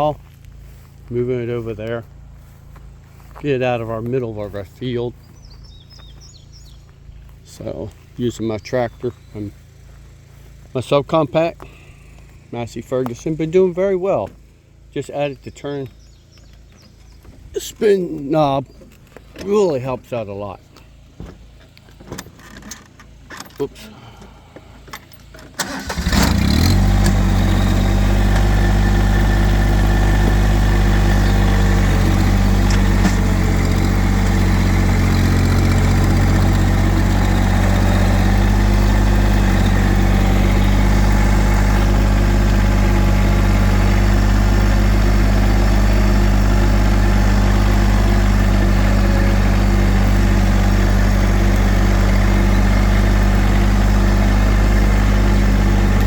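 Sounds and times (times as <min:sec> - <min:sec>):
tractor diesel engine starting: 0:00.0 - 0:05.6, 0:06.5 - 0:14.8, 0:21.8 - 0:56.0.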